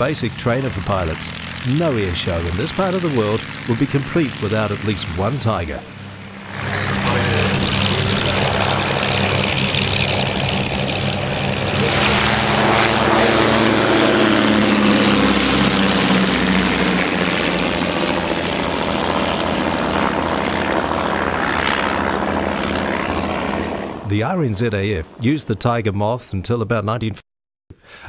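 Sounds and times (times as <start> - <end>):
propeller plane engines droning: 0.0 - 26.6.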